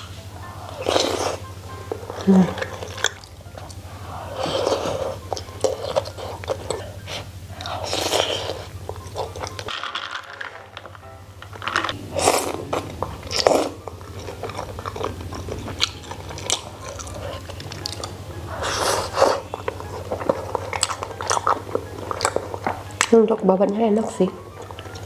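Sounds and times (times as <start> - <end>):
slurping and chewing noodles: 0.0 - 9.7, 11.9 - 23.2.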